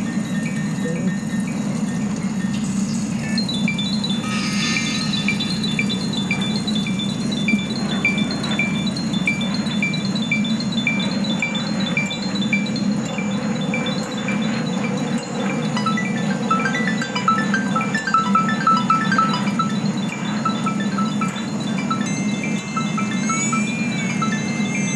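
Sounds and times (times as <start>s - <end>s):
high tinkling notes: 0.0s - 24.9s
low drone: 0.0s - 24.9s
bright chime notes: 0.6s - 11.8s, 15.6s - 24.9s.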